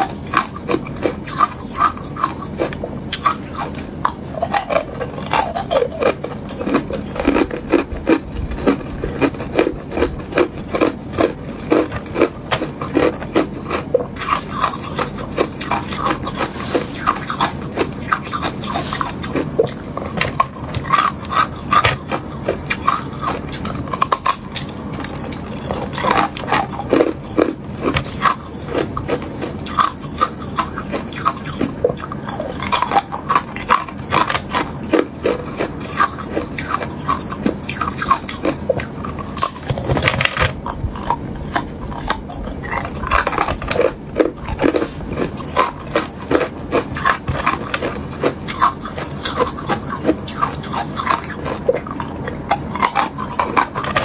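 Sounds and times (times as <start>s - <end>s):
ice crunching between teeth: 0.0s - 54.0s
wet mouth sounds: 0.0s - 54.0s.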